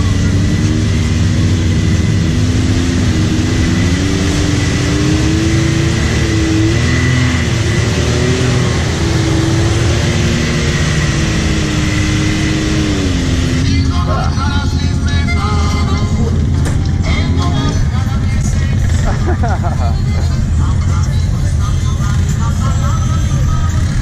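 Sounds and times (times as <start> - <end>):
high whine: 0.0 - 24.0
turbocharged engine under load: 0.0 - 24.0.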